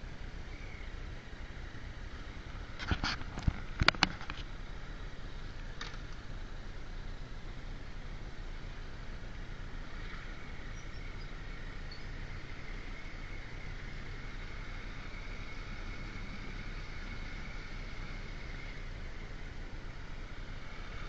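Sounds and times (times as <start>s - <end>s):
motorcycle engine and wind rumble: 0.0s - 21.0s.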